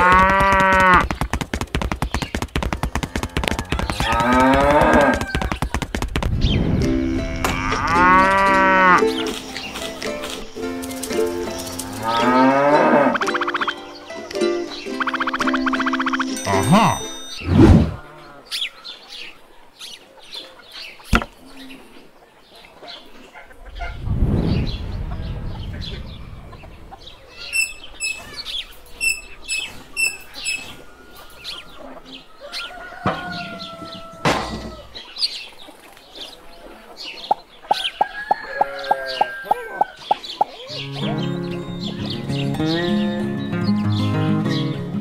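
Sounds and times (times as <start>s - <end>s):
small birds chirping: 0.0s - 17.4s, 18.0s - 45.0s
chickens clucking: 6.4s - 17.0s, 17.7s - 44.2s.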